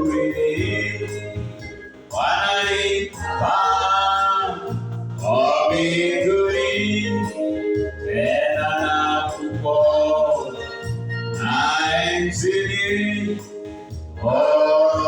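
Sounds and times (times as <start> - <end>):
low bass notes: 0.0 - 15.0
voices singing a hymn: 0.0 - 15.0.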